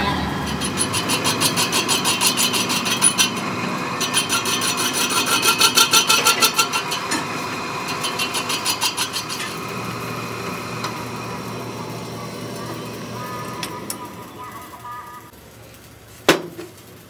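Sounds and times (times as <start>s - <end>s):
metal lathe whining: 0.0s - 14.5s
rhythmic rasping of cutting tool: 0.4s - 14.5s.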